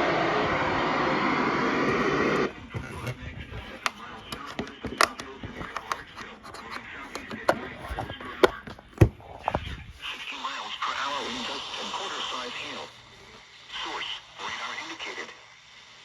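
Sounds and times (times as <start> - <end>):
radio hiss: 0.0 - 16.0.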